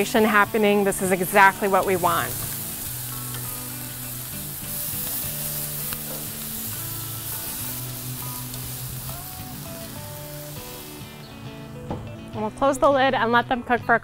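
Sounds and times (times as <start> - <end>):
meat sizzling on a grill: 0.0 - 11.9
soft background music: 0.0 - 14.0.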